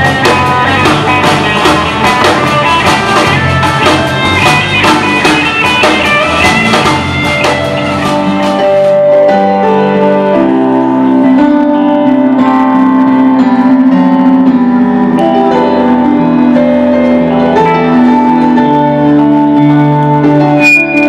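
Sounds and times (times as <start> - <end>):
electric guitar chords: 0.0 - 21.0
keyboard chords: 0.0 - 21.0.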